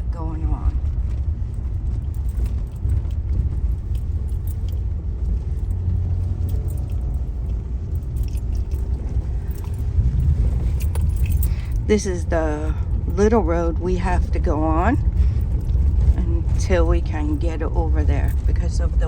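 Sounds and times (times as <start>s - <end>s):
car engine and tyre rumble: 0.0s - 19.0s
interior clicks and rattles: 0.0s - 19.0s.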